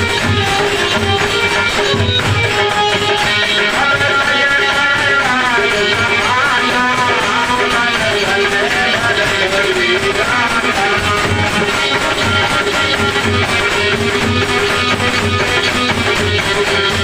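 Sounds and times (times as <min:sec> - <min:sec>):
drum beat: 0:00.0 - 0:17.0.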